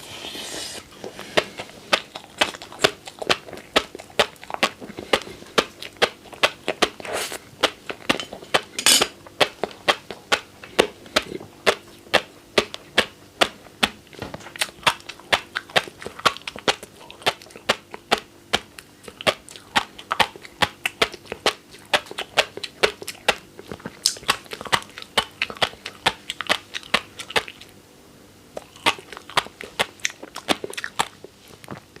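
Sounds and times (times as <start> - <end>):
fish roe popping while chewed: 1.3 - 8.7, 9.4 - 27.6, 28.6 - 32.0.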